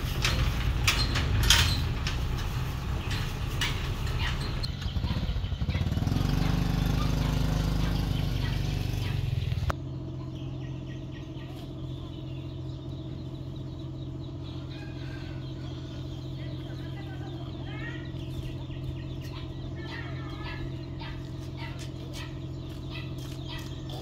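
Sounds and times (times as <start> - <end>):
motorcycle engine running: 0.0 - 24.0
steady engine hum: 0.0 - 24.0.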